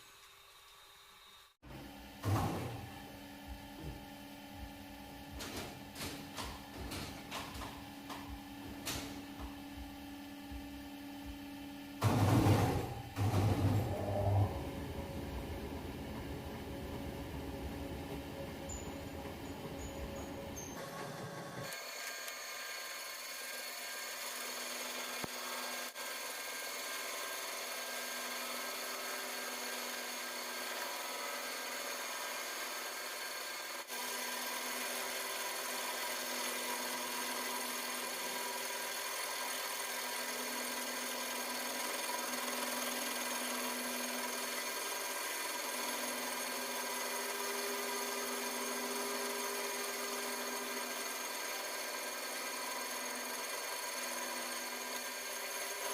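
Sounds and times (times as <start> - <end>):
lathe running with whine: 6.5 - 55.9.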